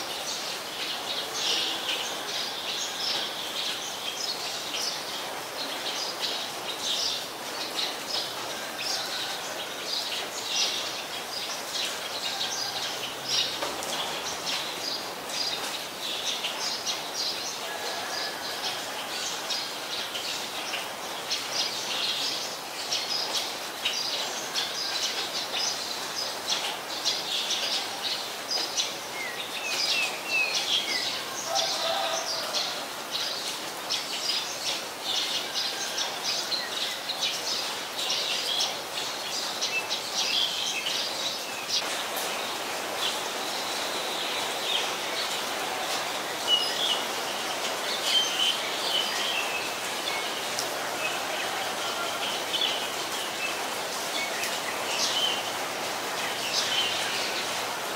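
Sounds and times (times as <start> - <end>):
steady background hiss: 0.0 - 57.9.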